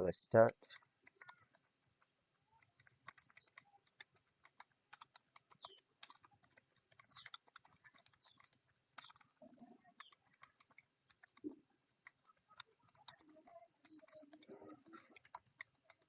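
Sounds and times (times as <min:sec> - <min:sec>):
rapid keyboard typing: 0:00.5 - 0:16.0.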